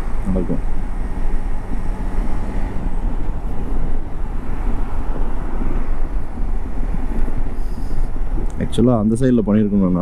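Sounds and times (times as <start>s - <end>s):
wind rushing on microphone: 0.0s - 10.0s.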